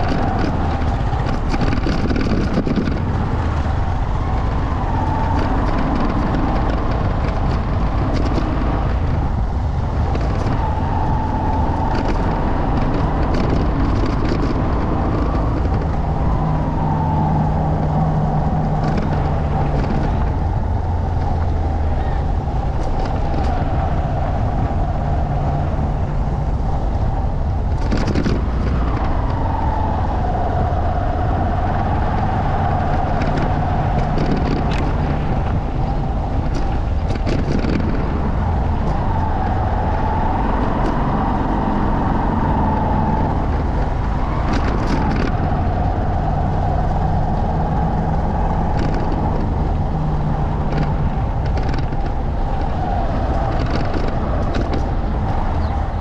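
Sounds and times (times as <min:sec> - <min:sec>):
knocks and rattles from bumps: 0:00.0 - 0:56.0
motorcycle engine revving: 0:00.0 - 0:56.0.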